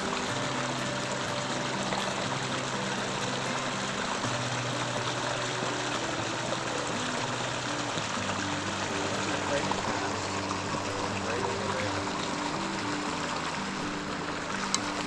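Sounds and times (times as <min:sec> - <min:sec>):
soft background music: 0:00.0 - 0:15.0
stream flowing: 0:00.0 - 0:15.0.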